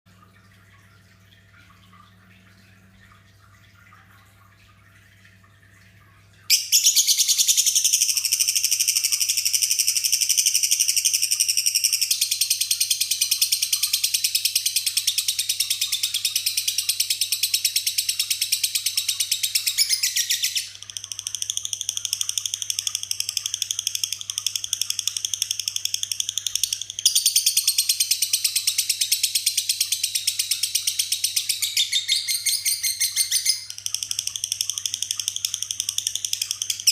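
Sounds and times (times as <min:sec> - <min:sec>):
lovebird rapid high-pitched chattering: 0:06.5 - 0:36.9.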